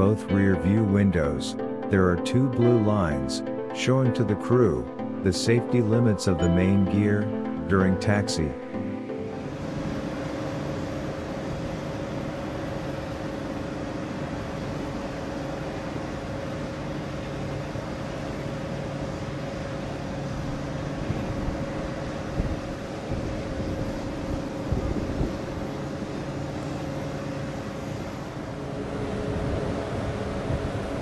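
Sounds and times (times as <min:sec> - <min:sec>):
aircraft engines droning: 0:00.0 - 0:31.0.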